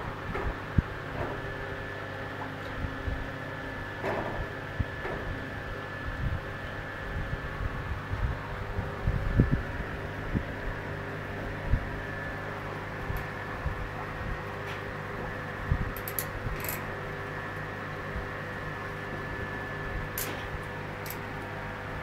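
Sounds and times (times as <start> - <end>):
aquarium pump humming: 0.0 - 22.0.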